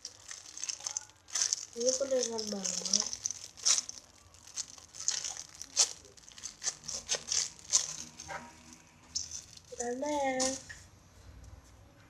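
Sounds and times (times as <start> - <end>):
plastic crinkling: 0.0 - 10.9.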